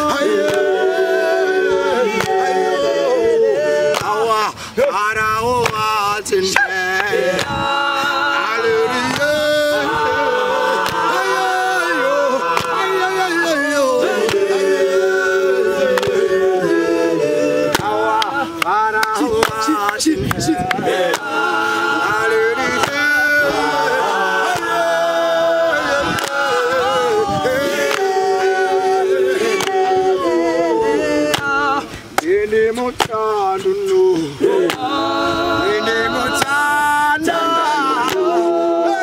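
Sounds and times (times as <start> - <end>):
male choir singing in harmony: 0.0 - 39.0.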